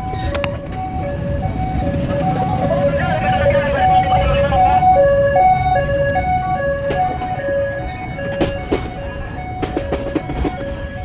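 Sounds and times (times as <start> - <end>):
level crossing two-tone alarm: 0.0 - 11.0.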